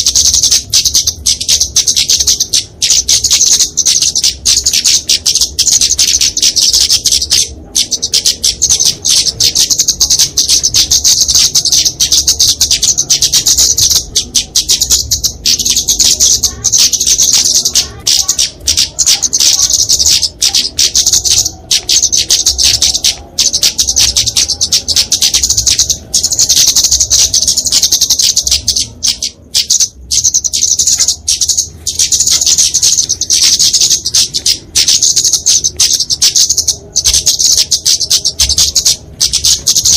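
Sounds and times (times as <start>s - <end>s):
bird giving sharp high chips: 0.0s - 39.9s.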